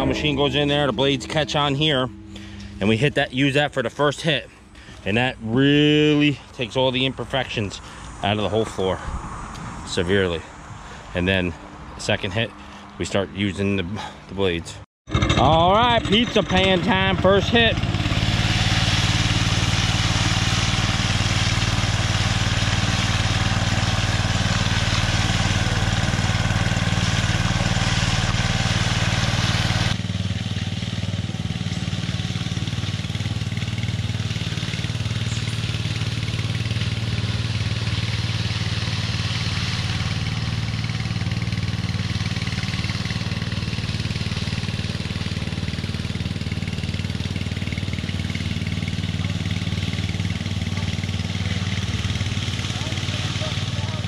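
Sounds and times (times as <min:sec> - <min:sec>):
power trowel engine running: 0:00.0 - 0:08.0, 0:15.1 - 0:54.0.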